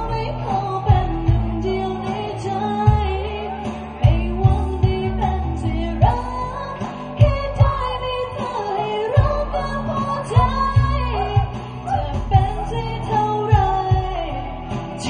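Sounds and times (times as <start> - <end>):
band with bass and beat: 0.0 - 15.0
person singing: 0.0 - 15.0.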